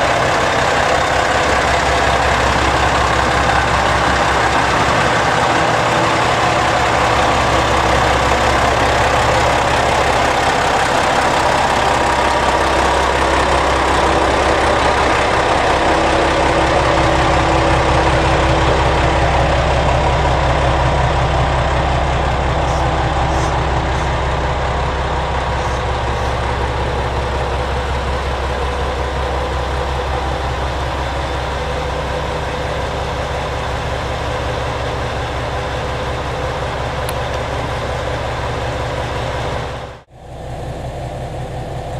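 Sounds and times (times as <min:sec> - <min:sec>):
diesel train engines idling: 0:00.0 - 0:41.9.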